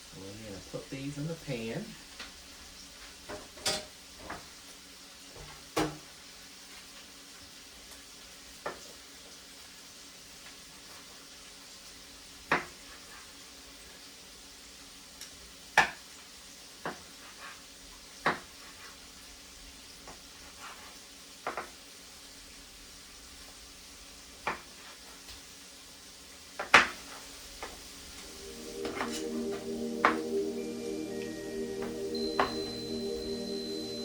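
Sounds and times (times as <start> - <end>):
food sizzling in a frying pan: 0.0 - 34.0.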